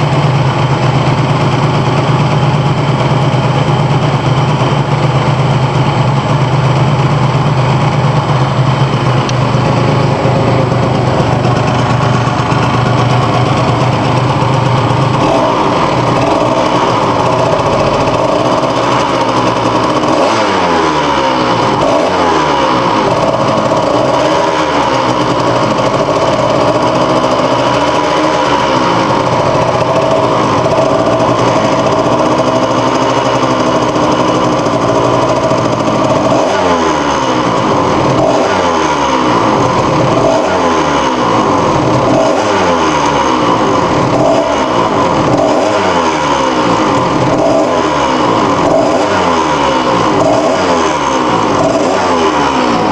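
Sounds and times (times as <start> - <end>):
small engine idling and revving: 0.0 - 52.9.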